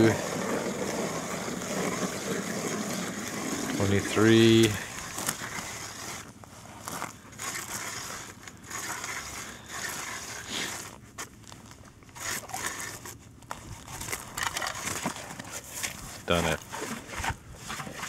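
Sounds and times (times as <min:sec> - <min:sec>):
ice auger crunching through ice: 0:00.0 - 0:18.0.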